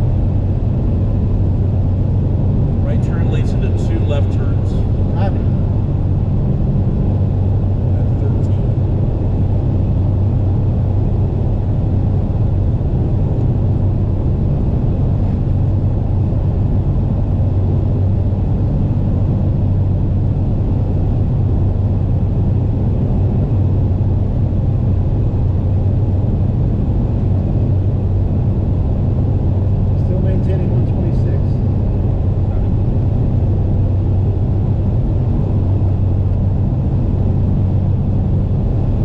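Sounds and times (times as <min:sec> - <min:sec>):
engine and road noise drone: 0:00.0 - 0:39.0.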